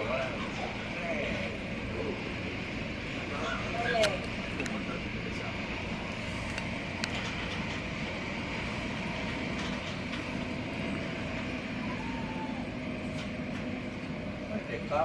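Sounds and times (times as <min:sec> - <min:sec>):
train cabin running noise: 0:00.0 - 0:15.0.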